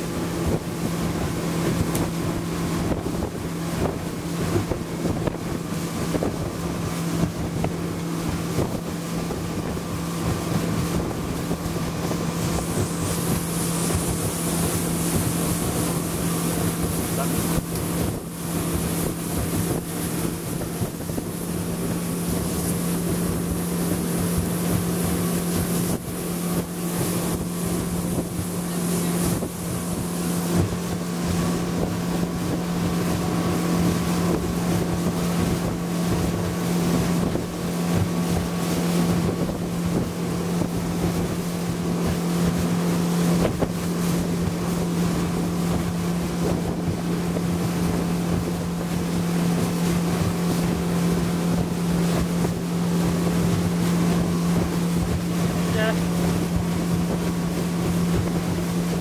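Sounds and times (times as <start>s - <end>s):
speedboat engine drone: 0.0s - 59.0s
water rushing around boat: 0.0s - 59.0s
wind buffeting microphone: 0.0s - 59.0s.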